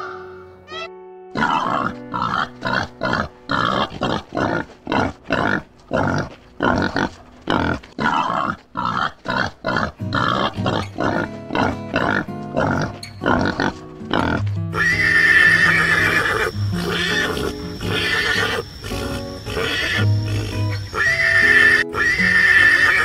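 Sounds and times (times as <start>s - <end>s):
background music: 0.0s - 23.0s
pig calling: 0.7s - 23.0s.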